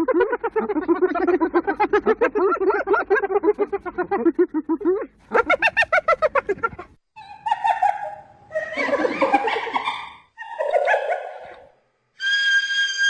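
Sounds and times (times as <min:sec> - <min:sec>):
hyenas giggling: 0:00.0 - 0:11.7.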